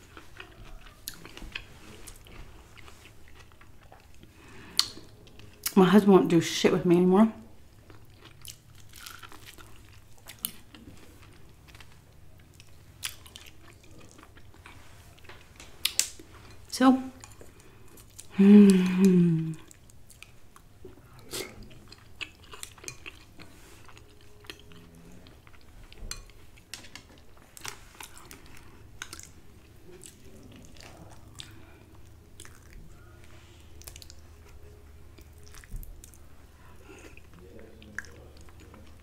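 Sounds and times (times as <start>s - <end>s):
chewing soft food: 0.0s - 5.8s, 7.7s - 39.0s.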